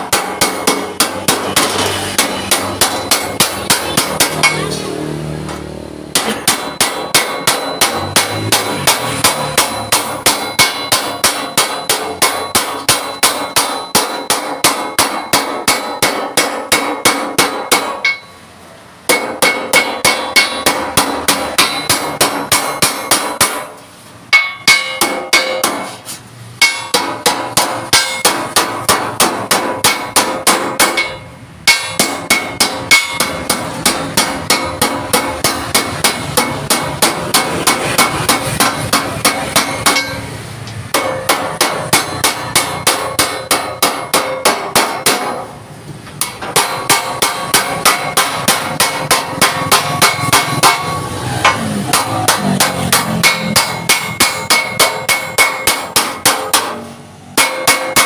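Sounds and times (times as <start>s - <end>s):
hammer striking steel plate: 0.0s - 58.0s.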